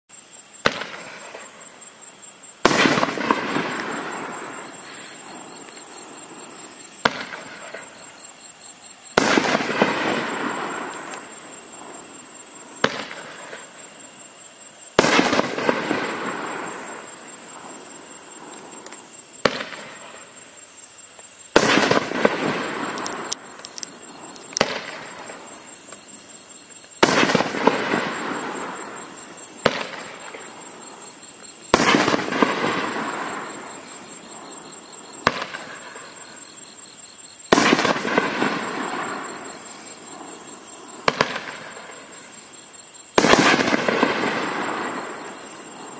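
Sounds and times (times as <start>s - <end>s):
firework aerial break echoing: 0.6s - 8.4s, 9.0s - 13.9s, 14.9s - 20.6s, 21.5s - 26.3s, 26.9s - 36.6s, 37.4s - 45.9s.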